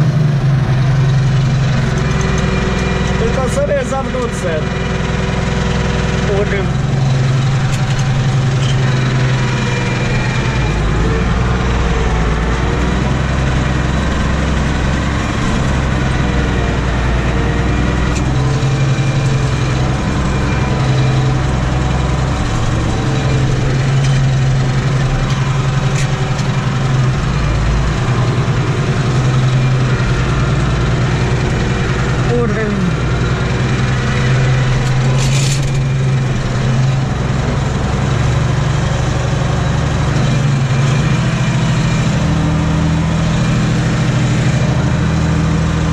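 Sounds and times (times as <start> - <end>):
tractor engine droning under load: 0.0 - 45.9.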